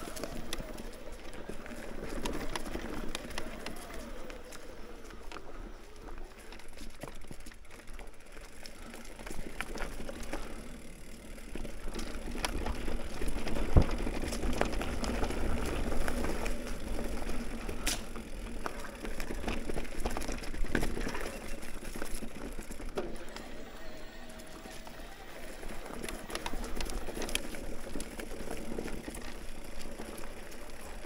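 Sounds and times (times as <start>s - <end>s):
bike tyre noise and rattling: 0.0s - 31.0s.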